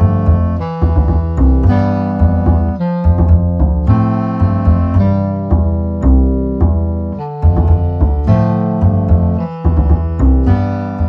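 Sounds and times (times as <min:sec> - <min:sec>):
bass line: 0:00.0 - 0:11.0
keyboard chords: 0:00.0 - 0:11.0.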